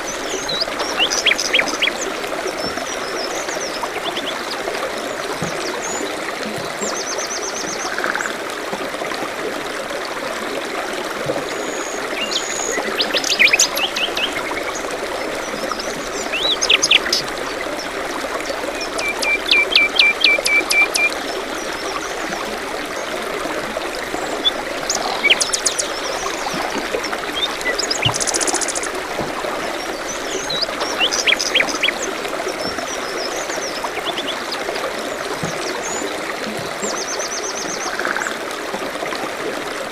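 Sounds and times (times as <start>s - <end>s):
small stream running: 0.0s - 39.9s.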